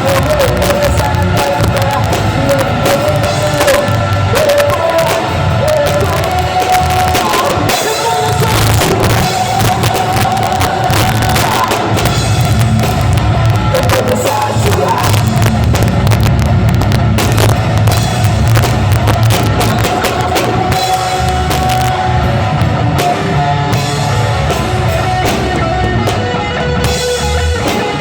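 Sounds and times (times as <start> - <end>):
drum kit beat: 0.0 - 28.0
steady bass: 0.0 - 28.0.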